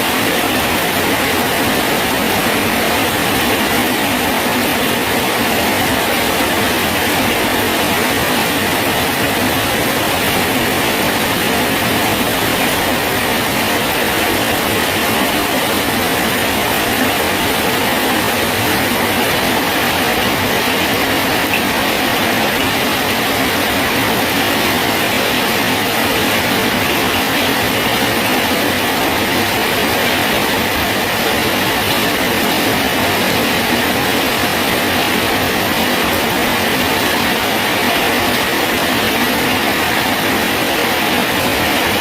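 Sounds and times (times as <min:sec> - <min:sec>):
steady rain hissing: 0:00.0 - 0:42.0.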